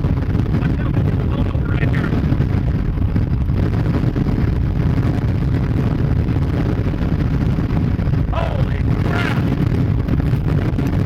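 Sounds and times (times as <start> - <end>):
vehicle running on road: 0.0 - 11.0
wind buffeting microphone: 0.0 - 11.0.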